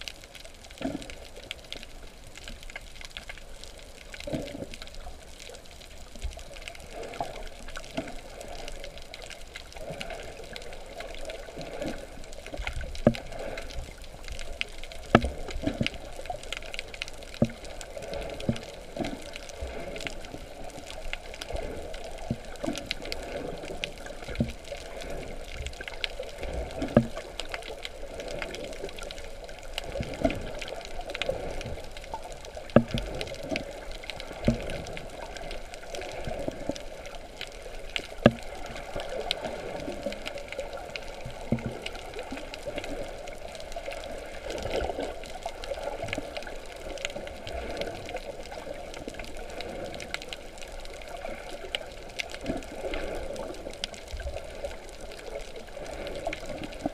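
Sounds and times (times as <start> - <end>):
water sloshing and trickling: 0.0 - 56.9.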